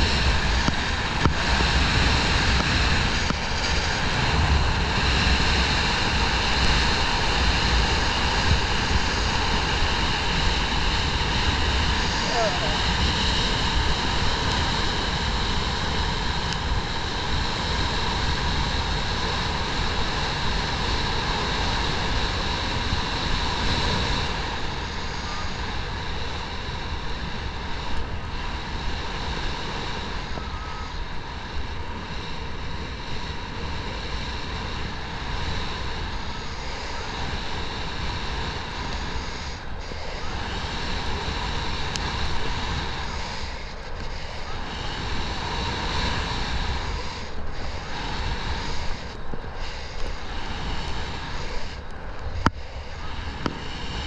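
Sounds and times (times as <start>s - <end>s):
engine drone with high whine: 0.0s - 54.0s.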